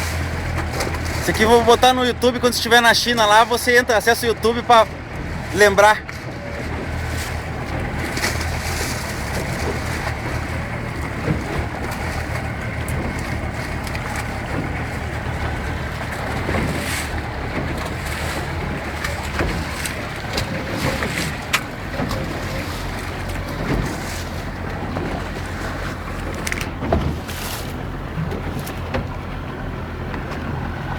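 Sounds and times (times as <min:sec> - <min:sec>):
motorboat engine hum: 0:00.0 - 0:30.9
water splashing against hull: 0:00.0 - 0:30.9
wind buffeting microphone: 0:04.8 - 0:30.9.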